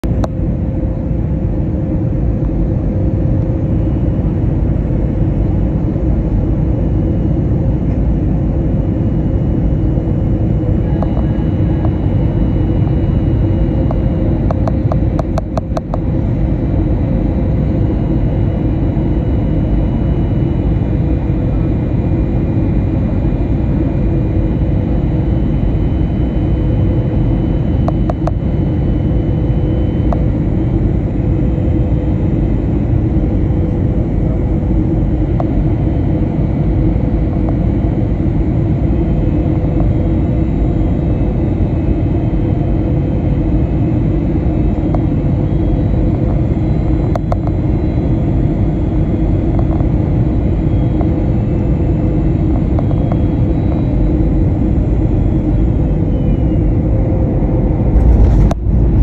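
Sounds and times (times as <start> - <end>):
aircraft engine and air roar: 0.0 - 59.0
faint steady hums: 0.0 - 59.0.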